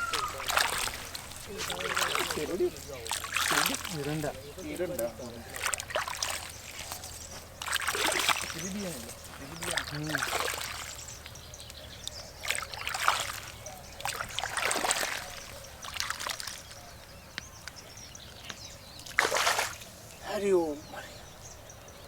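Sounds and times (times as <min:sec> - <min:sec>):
water sloshing and splashing: 0:00.0 - 0:17.1, 0:19.0 - 0:20.0
low steady background noise: 0:00.0 - 0:22.0.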